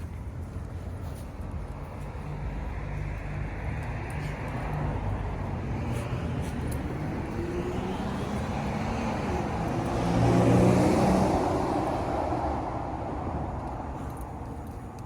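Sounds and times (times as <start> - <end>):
vehicle passing by: 0.0 - 14.8.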